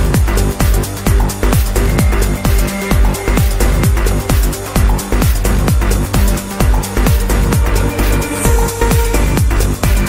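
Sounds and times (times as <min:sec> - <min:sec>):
deep kick drum: 0:00.0 - 0:10.0.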